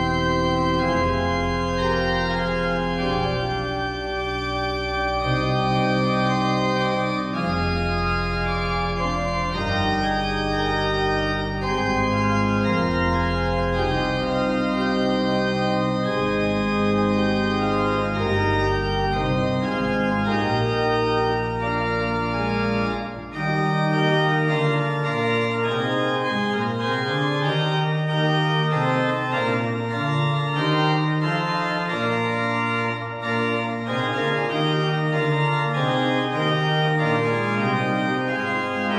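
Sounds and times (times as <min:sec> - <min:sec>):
deep organ bass notes: 0:00.0 - 0:38.9
organ chords: 0:00.0 - 0:38.9.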